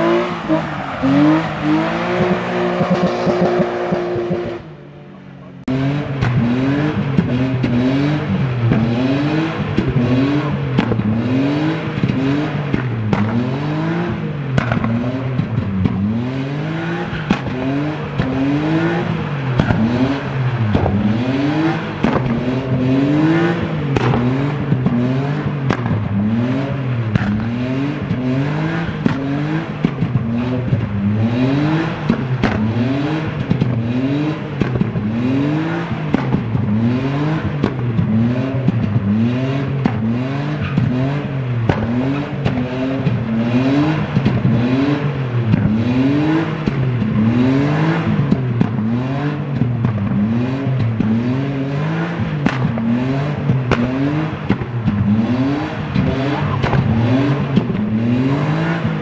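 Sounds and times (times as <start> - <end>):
car engine revving: 0.0 - 59.0
sharp exhaust cracks: 6.0 - 59.0.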